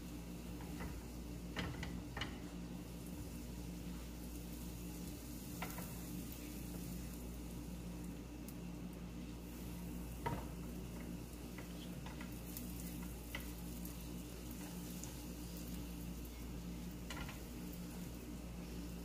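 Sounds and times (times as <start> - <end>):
butter sizzling in a frying pan: 0.0 - 19.0.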